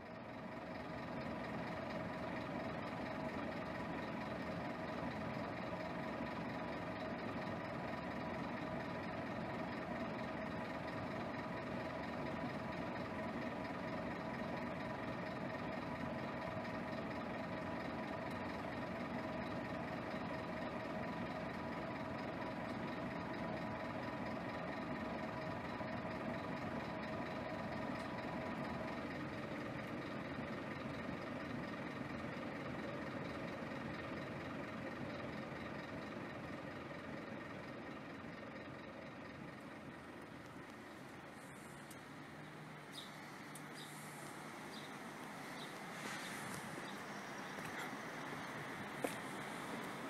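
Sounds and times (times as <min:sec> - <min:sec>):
diesel bus engine idling: 0:00.0 - 0:50.0.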